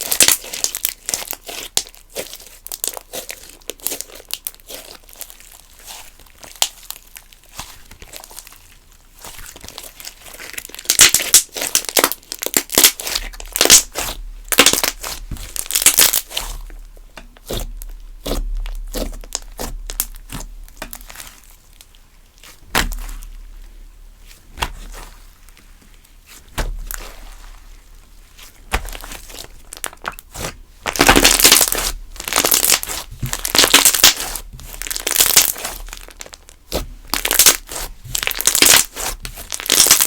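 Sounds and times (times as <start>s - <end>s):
slime crackling and popping: 0.0s - 40.0s.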